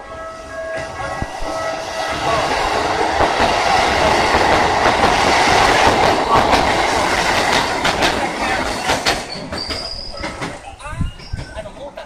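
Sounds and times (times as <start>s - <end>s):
electric train passing: 0.0s - 12.0s
wheels clattering over rail joints: 2.1s - 12.0s.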